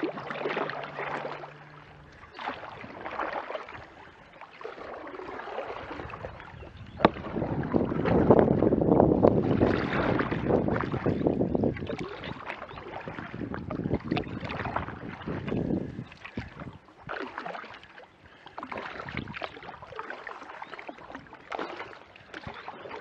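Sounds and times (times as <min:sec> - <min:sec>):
paddle strokes splashing: 0:00.0 - 0:23.0
water washing along hull: 0:00.0 - 0:23.0.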